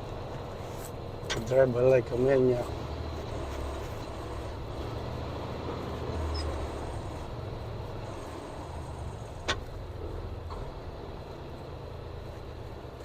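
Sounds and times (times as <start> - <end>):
vehicle rumbling on road: 0.0 - 13.0.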